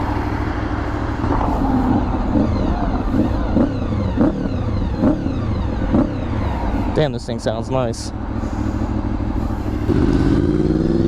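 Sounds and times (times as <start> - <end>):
motorcycle engine idling with throttle blips: 0.0 - 11.0.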